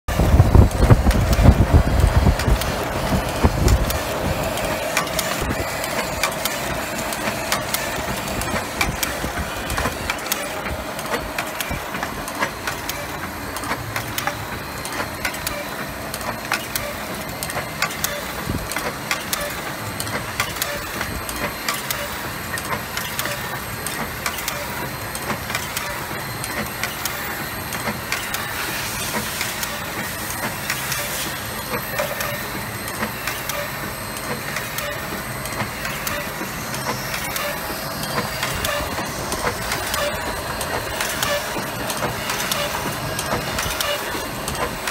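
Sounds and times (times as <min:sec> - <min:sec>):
machine clattering clicks: 0:00.1 - 0:44.9.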